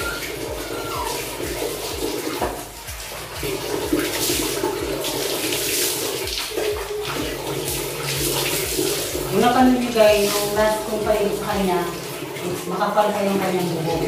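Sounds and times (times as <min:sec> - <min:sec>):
water running and splashing: 0:00.0 - 0:14.0.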